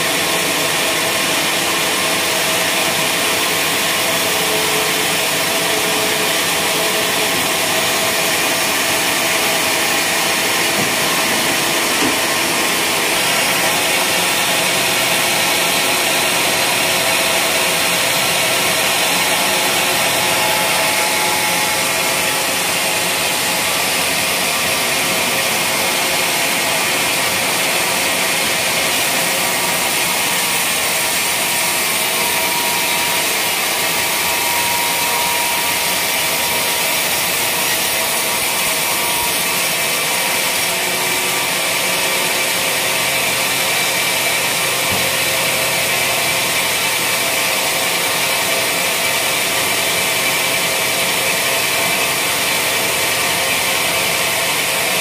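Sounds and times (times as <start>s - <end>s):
band saw cutting timber: 0.0s - 55.0s
sawmill hissing whine: 0.0s - 55.0s.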